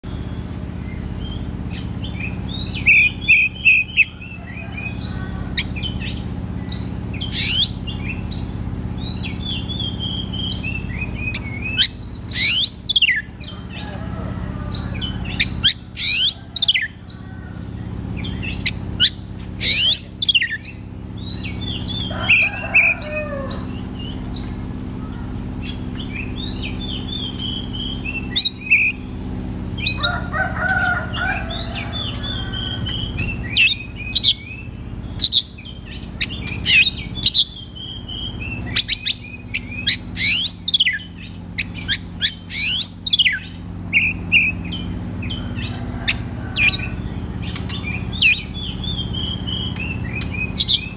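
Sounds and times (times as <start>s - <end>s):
songbird whistling song: 0.0s - 14.0s, 14.6s - 29.2s, 29.8s - 50.9s
low steady hum: 0.0s - 50.9s.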